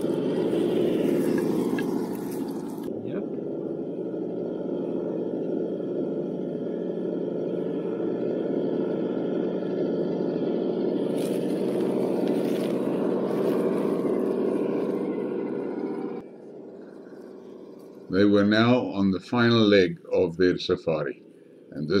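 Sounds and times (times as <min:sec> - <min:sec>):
truck engine running steadily: 0:00.0 - 0:20.5.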